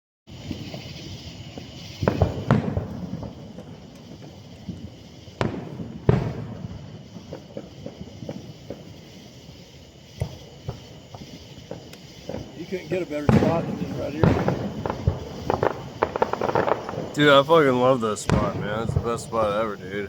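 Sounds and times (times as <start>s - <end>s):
fireworks banging: 0.3s - 20.0s
small firework pops: 0.3s - 20.0s.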